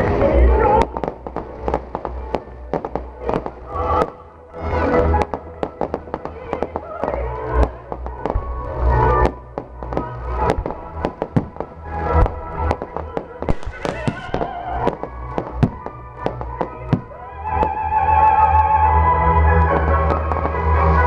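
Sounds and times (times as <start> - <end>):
fireworks popping and banging: 0.0 - 18.2, 19.6 - 21.0
music playing: 0.0 - 21.0.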